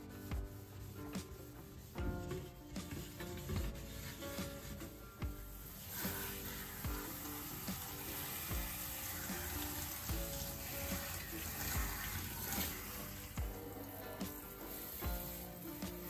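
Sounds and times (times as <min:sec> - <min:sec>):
music with steady beat: 0:00.0 - 0:16.0.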